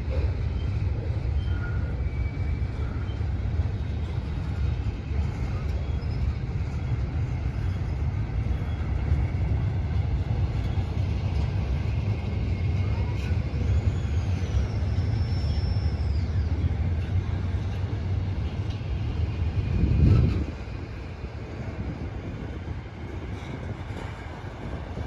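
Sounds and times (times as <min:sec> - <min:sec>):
high-pitched rail squeal: 0:00.0 - 0:22.0
train cars rumbling on rails: 0:00.0 - 0:25.0.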